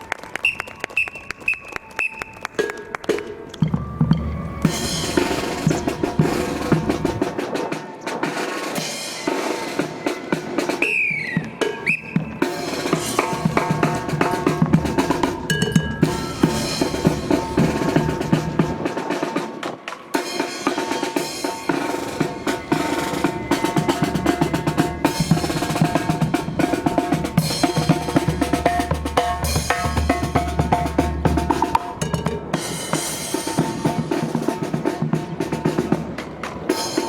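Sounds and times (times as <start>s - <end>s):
snare and bass drums: 1.4s - 37.0s.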